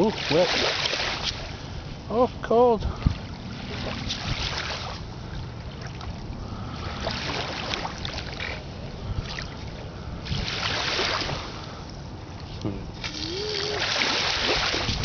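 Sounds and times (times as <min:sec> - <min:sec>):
waves washing on sandy shore: 0:00.0 - 0:15.0
wind rumble on microphone: 0:00.0 - 0:15.0.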